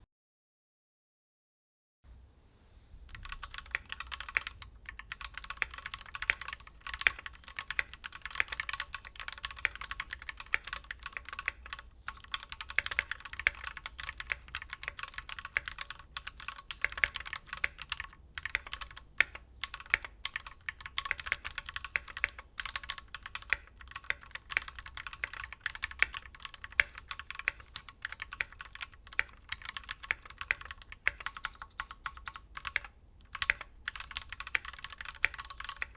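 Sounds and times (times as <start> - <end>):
mechanical keyboard typing: 3.1 - 35.9.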